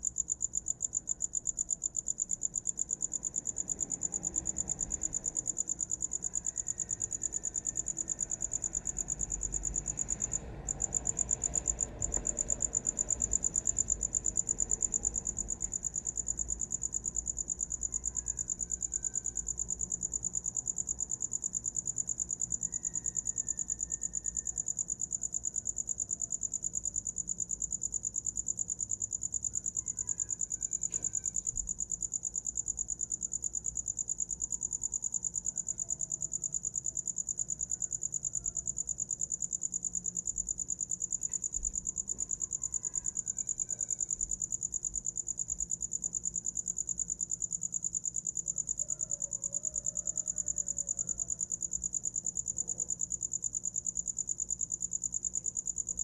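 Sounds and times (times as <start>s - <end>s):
cricket trilling: 0.0s - 56.0s.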